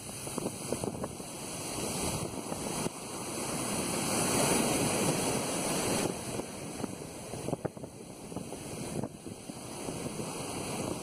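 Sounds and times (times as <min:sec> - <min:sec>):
ocean surf on beach: 0:00.0 - 0:11.0.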